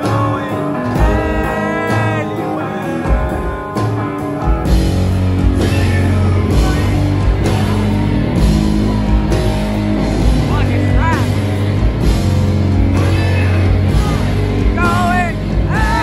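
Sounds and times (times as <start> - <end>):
rock band playing loud: 0.0 - 16.0.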